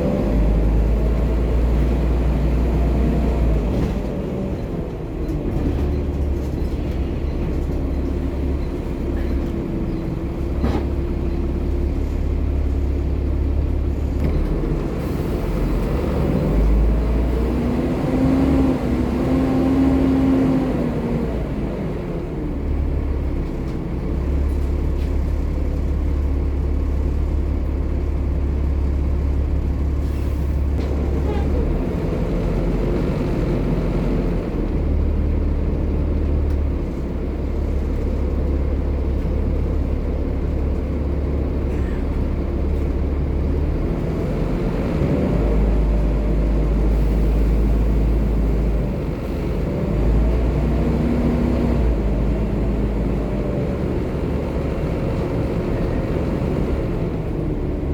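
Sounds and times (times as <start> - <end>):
bus diesel engine running: 0.0 - 57.9.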